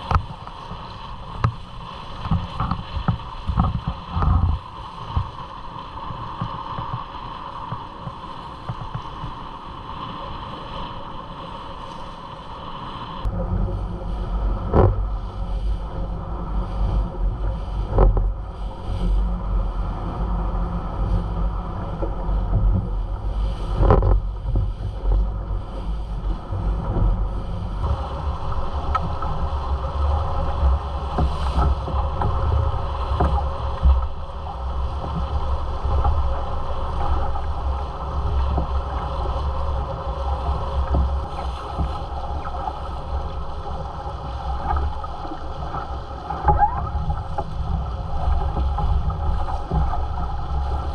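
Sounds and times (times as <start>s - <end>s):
water splashing along hull: 0.0s - 50.9s
wind buffeting microphone: 0.0s - 50.9s.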